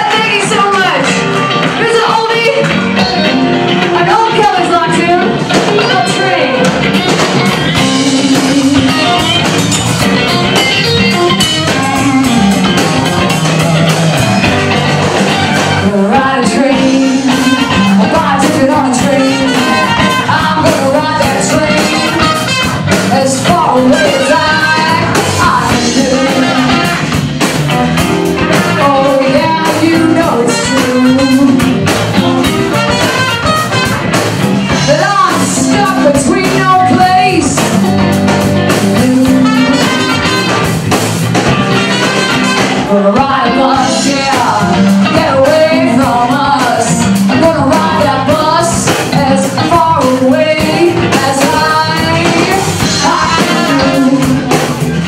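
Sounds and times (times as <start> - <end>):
live blues band playing: 0.0 - 55.0.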